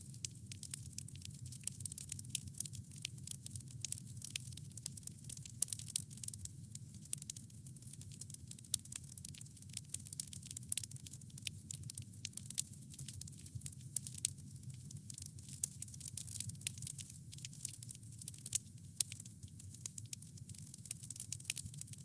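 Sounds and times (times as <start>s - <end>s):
campfire crackling and popping: 0.4s - 22.0s.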